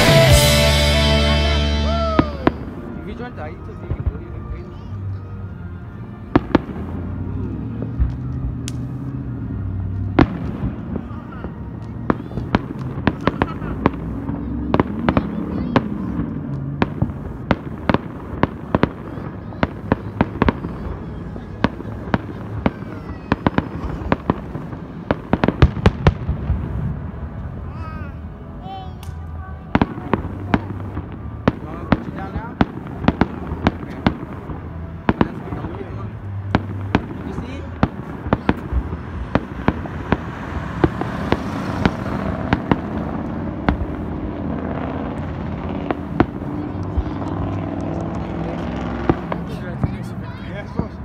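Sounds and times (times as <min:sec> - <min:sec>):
firework bangs: 0:00.0 - 0:04.8, 0:06.3 - 0:51.0
low background noise: 0:00.0 - 0:51.0.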